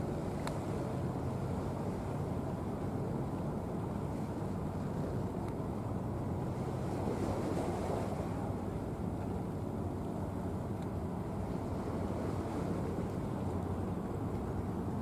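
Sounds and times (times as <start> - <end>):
faint machinery hum: 0.0 - 15.0
ship passing with low rumble: 0.0 - 15.0.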